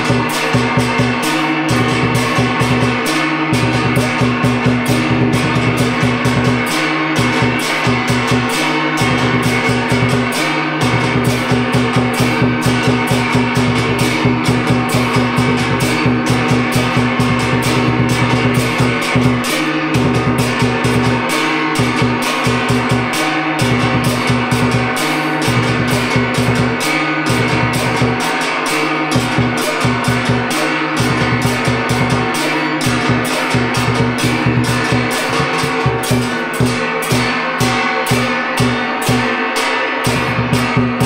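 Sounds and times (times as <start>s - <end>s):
barrel drum beating: 0.0s - 41.0s
gongs ringing: 0.0s - 41.0s.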